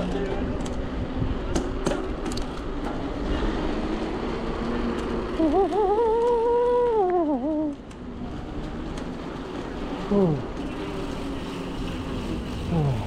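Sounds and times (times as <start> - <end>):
street and riding noise: 0.0 - 13.0.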